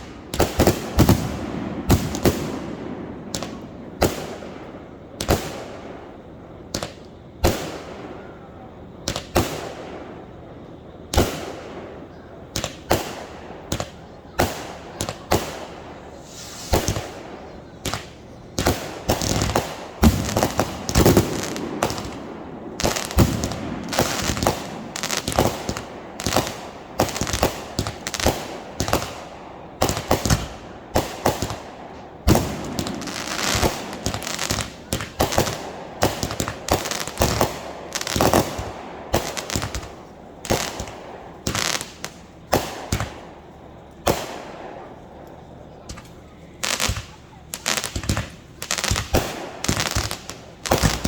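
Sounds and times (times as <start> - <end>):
fireworks banging: 0.0 - 51.0.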